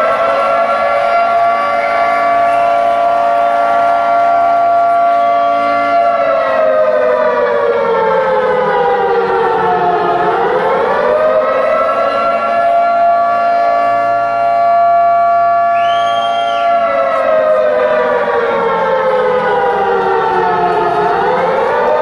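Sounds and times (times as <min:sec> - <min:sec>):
air-raid siren: 0:00.0 - 0:22.0.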